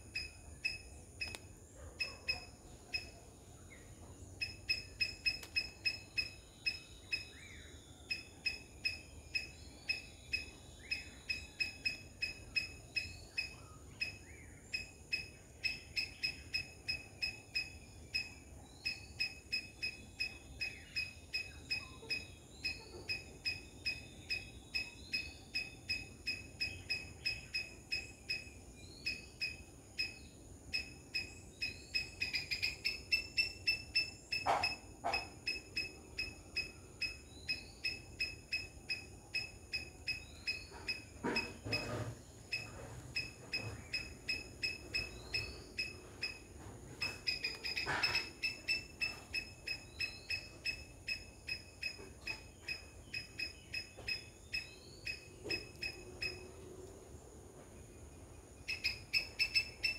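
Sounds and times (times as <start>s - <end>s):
rhythmic high-pitched calling: 0.0s - 1.4s, 4.4s - 56.5s, 58.6s - 59.9s.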